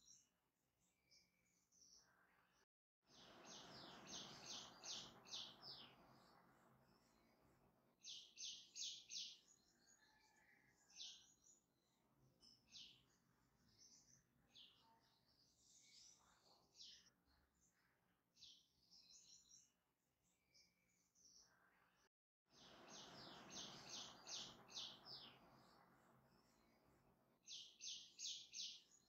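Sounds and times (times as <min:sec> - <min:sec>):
faint bird chirping: 0:00.0 - 0:29.0.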